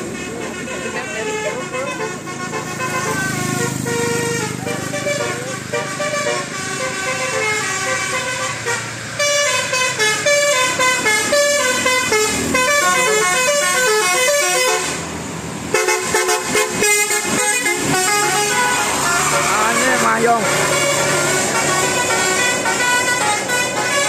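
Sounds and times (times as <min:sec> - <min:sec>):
horn-like tune: 0:00.1 - 0:15.1, 0:15.7 - 0:24.0.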